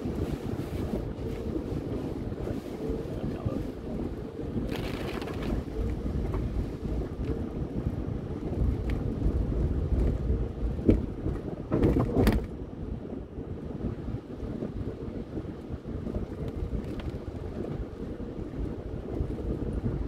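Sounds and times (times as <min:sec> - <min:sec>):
car engine and tyre rumble: 0:00.0 - 0:20.0
wind on microphone: 0:00.0 - 0:20.0.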